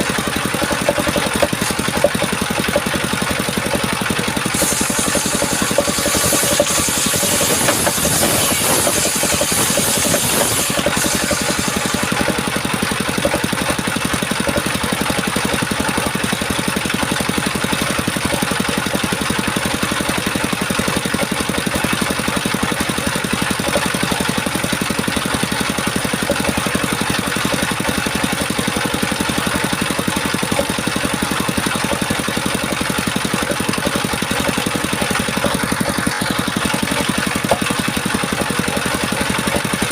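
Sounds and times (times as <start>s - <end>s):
engine-driven sawmill running: 0.0s - 39.9s.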